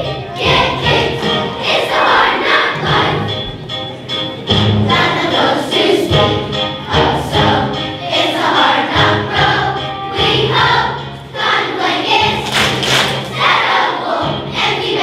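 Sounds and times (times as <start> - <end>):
instrumental accompaniment: 0.0 - 15.0
children singing in chorus: 0.4 - 3.3, 4.8 - 15.0.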